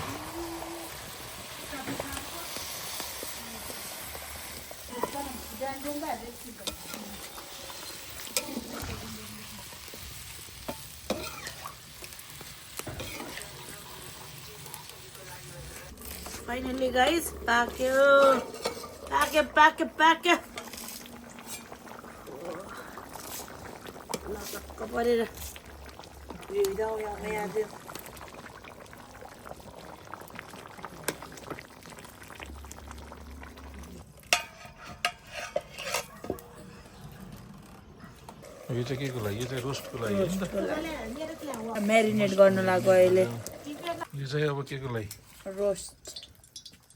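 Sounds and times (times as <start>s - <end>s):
curry sizzling in a pot: 0.0s - 46.9s.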